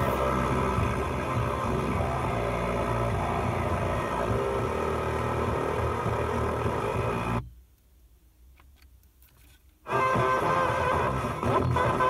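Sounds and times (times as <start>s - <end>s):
car radio playing: 0.0s - 7.6s, 8.6s - 12.0s.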